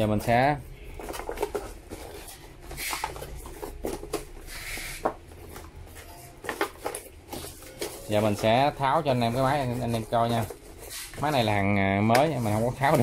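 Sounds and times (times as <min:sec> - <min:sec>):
plastic wrap rustling: 0:00.0 - 0:13.0.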